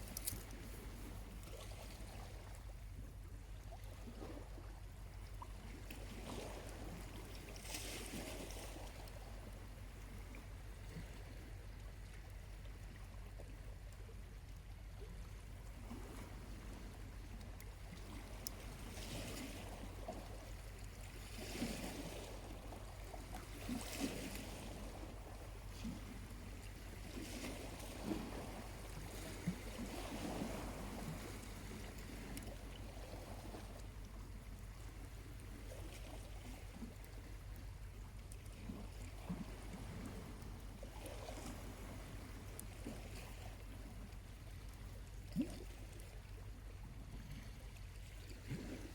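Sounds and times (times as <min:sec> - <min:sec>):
small waves lapping on shore: 0:00.0 - 0:48.9.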